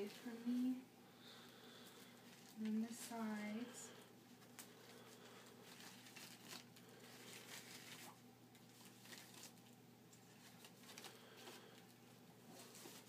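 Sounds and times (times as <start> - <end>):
low room hum: 0.0 - 13.0
paper wrapper crinkling: 1.2 - 3.2, 4.3 - 13.0.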